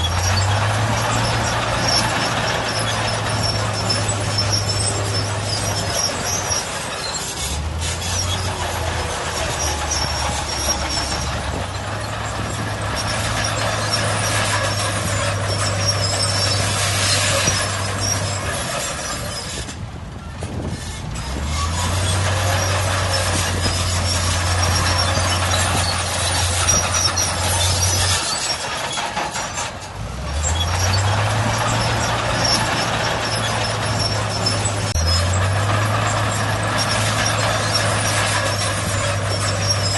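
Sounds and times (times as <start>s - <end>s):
constant clattering: 0.0s - 39.9s
diesel machinery engine hum: 0.0s - 39.9s.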